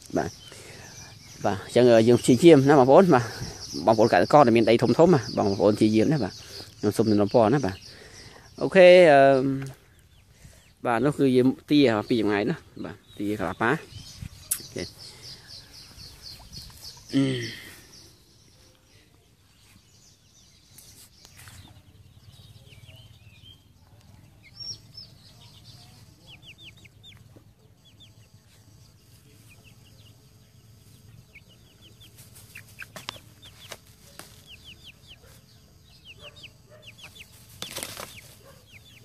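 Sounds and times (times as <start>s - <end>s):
chicks peeping: 0.0s - 39.0s.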